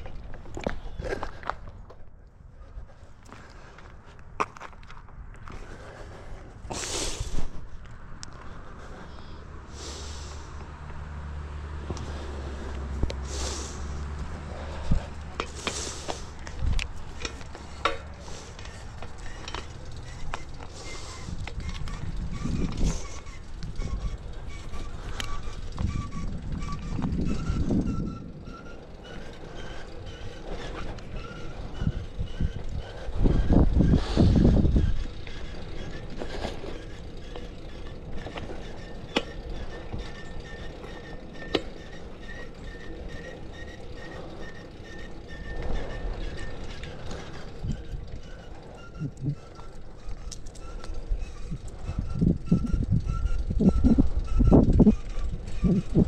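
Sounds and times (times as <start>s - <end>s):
bicycle chain clicking and rasping: 3.1s - 56.0s
wind rumble on microphone: 10.4s - 56.0s.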